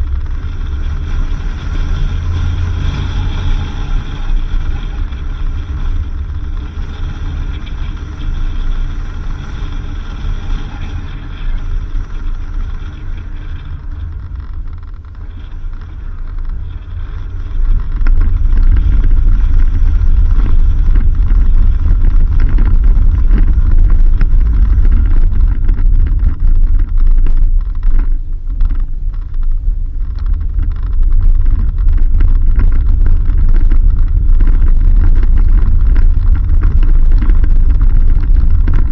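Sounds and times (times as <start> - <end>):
vehicle driving on dirt road: 0.0 - 38.9.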